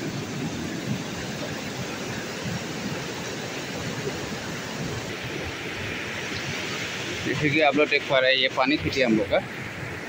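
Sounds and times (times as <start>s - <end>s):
fast-flowing stream rushing: 0.0s - 10.0s.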